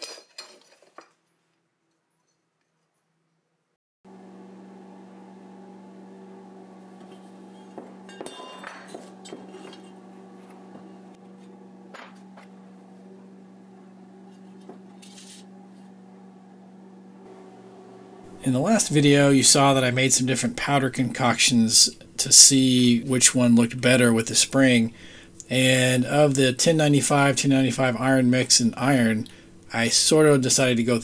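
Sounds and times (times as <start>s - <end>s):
steady hum: 4.1s - 31.0s.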